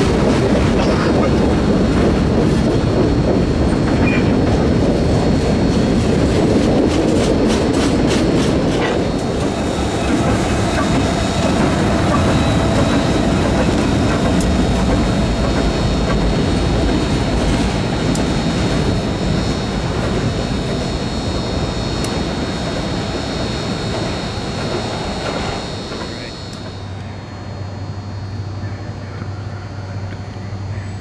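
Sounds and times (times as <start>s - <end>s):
train rumbling past: 0.0s - 31.0s.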